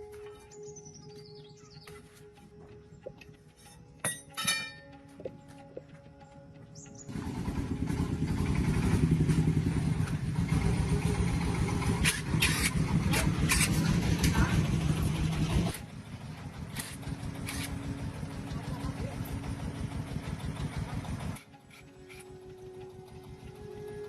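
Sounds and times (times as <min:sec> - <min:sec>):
engine running with low pulsing: 0:00.0 - 0:24.0.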